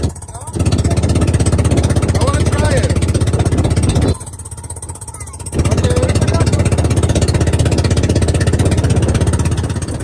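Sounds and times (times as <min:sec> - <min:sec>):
boat engine running hard: 0:00.0 - 0:10.0.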